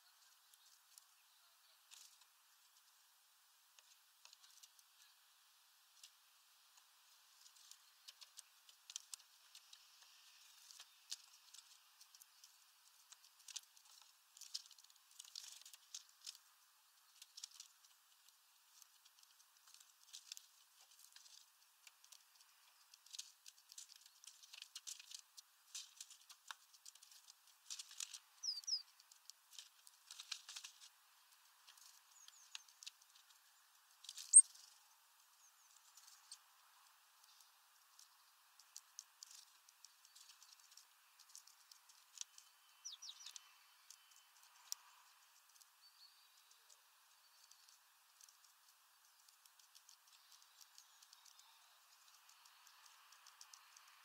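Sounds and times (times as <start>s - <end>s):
birds pecking at seed bag: 0.0s - 54.0s.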